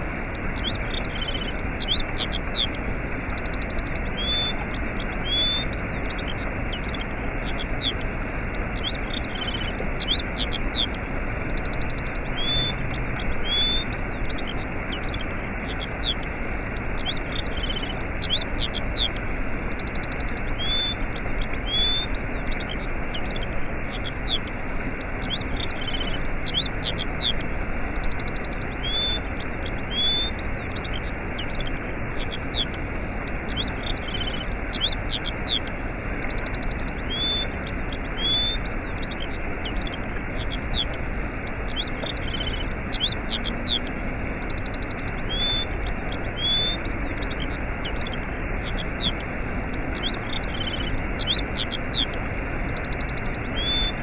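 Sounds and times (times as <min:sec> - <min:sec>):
small birds chirping and trilling: 0:00.0 - 0:54.0
waterfall rushing: 0:00.0 - 0:54.0.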